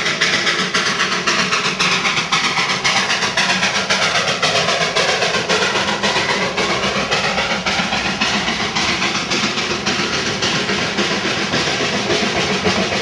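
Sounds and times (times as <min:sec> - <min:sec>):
steam locomotive chuffing: 0:00.0 - 0:13.0
train coaches rolling: 0:00.0 - 0:13.0.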